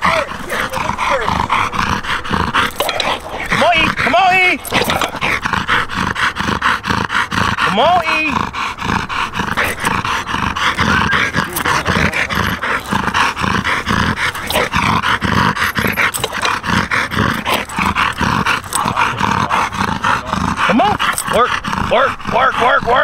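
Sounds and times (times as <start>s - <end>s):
dog panting hard: 0.0s - 23.0s.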